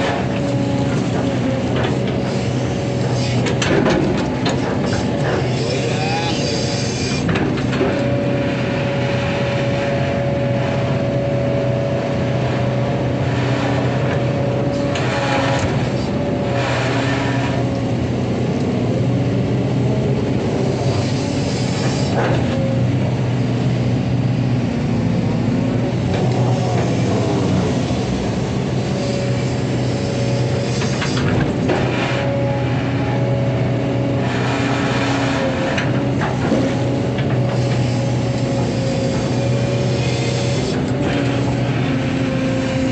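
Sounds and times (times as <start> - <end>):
excavator diesel engine: 0.0 - 42.9.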